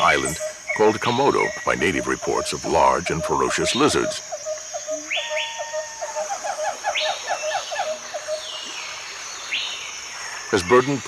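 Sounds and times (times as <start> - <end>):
bird calls: 0.0 - 11.0
high insect buzz: 0.0 - 11.0.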